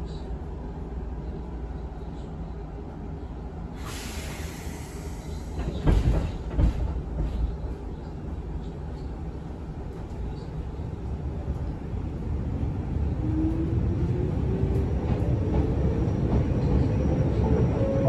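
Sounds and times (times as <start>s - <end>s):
electric train running rumble: 0.0s - 18.0s.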